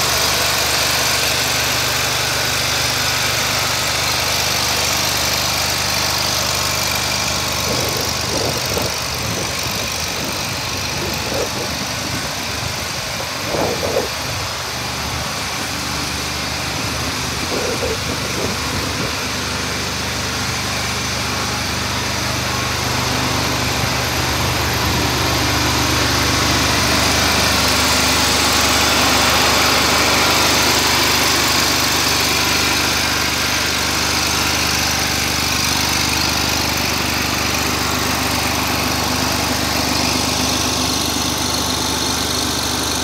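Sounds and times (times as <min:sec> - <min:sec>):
mower engine idling: 0:00.0 - 0:43.0.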